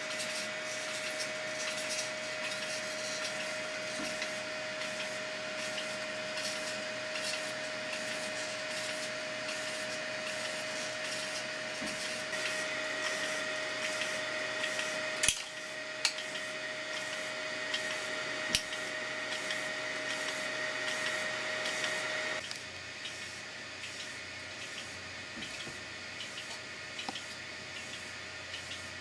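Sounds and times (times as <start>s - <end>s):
stepper motor whine: 0.0s - 24.8s.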